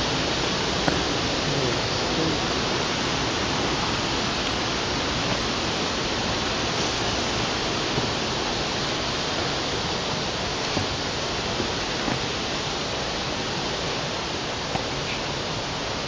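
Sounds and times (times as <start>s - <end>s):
water pouring down waterfall: 0.0s - 16.0s.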